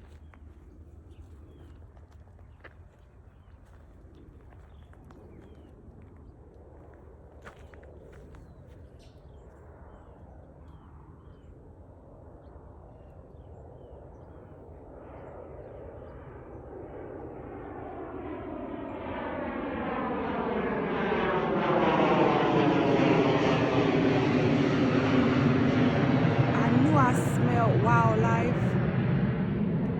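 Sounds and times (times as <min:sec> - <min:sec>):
airplane flying low overhead: 0:00.0 - 0:29.9.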